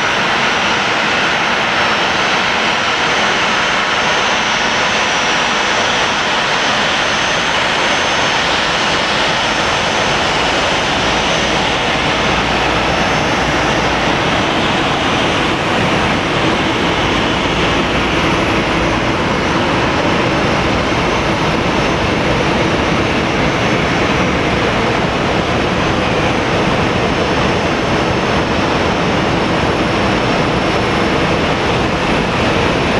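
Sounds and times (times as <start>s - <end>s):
jet engines running at low thrust: 0.0s - 32.9s.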